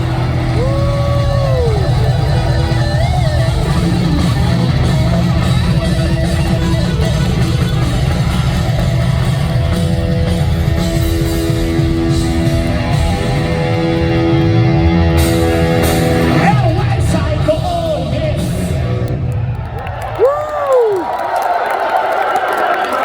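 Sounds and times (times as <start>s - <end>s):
live rock band playing: 0.0s - 19.4s
electric guitar: 0.0s - 20.0s.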